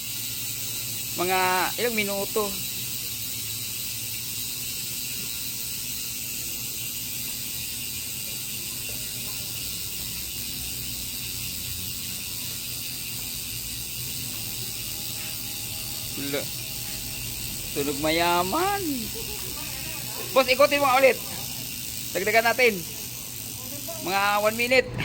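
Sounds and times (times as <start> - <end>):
bicycle hub ratcheting clicks: 0.0 - 25.0.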